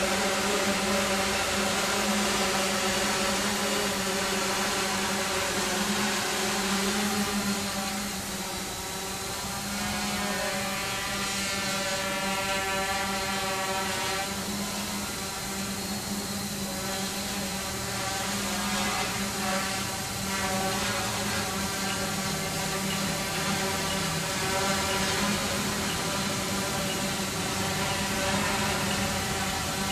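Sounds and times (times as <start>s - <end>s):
quadcopter buzzing whine: 0.0s - 29.9s.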